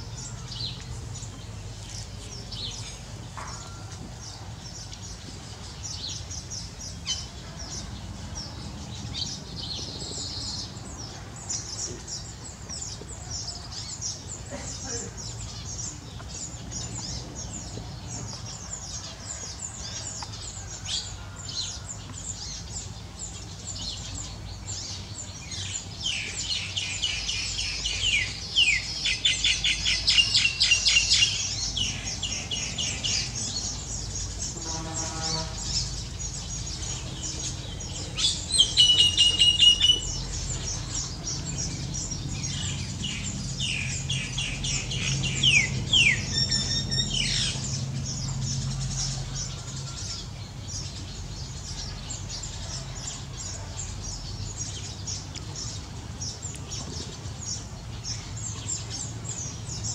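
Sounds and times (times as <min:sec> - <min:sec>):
weaver birds chattering: 0:00.0 - 0:59.9.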